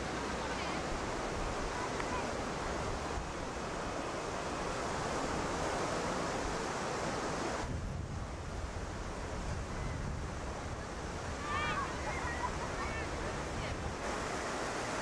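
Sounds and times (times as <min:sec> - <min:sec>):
surf washing: 0:00.0 - 0:15.0
wind noise on microphone: 0:00.0 - 0:15.0.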